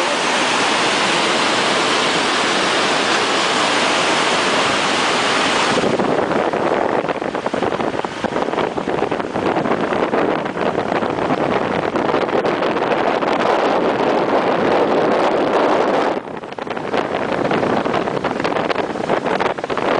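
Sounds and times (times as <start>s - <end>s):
fast-flowing river rushing: 0.0s - 19.9s
wind buffeting microphone: 0.0s - 19.9s.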